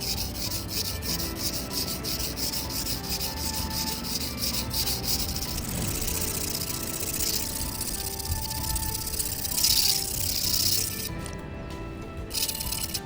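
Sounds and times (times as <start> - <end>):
knife scraping on whetstone: 0.0 - 11.3
faint background music: 0.0 - 13.0.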